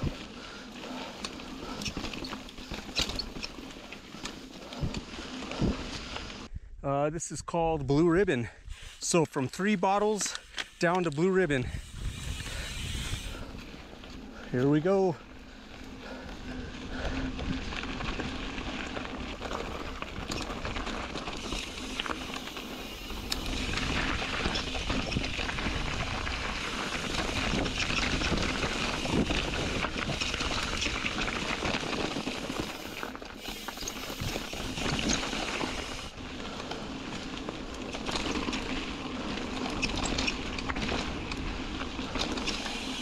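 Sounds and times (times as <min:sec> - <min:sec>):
rocks and bike clacking: 0:00.0 - 0:06.5, 0:09.1 - 0:43.0
bike tyre noise on trail: 0:00.0 - 0:06.8, 0:07.9 - 0:43.0.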